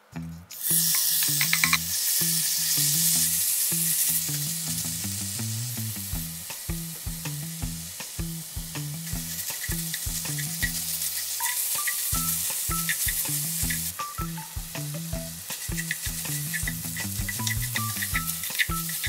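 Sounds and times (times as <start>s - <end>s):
meat sizzling in a hot pan: 0.6s - 19.0s.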